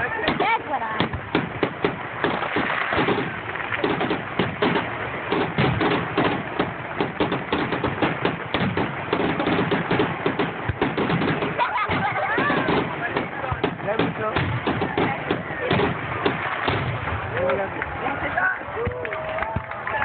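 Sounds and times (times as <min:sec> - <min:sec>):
fireworks bangs: 0:00.0 - 0:20.0
fireworks popping and crackling: 0:00.0 - 0:20.0.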